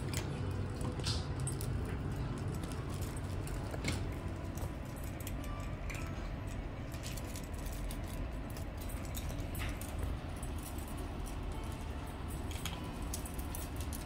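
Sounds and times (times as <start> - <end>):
cats crunching kibble: 0.0 - 14.0
steady low hum: 0.0 - 14.0
kibble clinking on metal bowls: 0.9 - 14.0.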